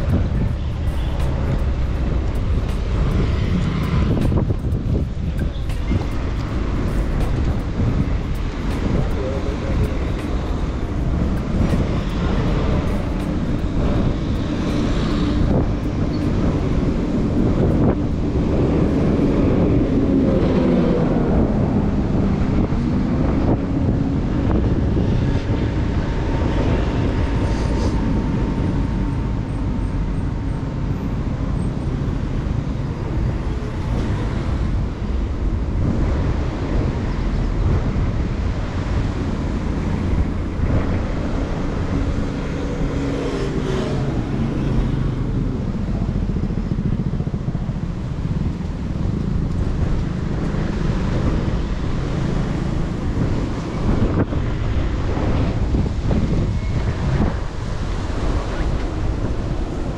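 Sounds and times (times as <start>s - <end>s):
cars driving past: 0.0s - 59.9s
low traffic rumble: 0.0s - 59.9s.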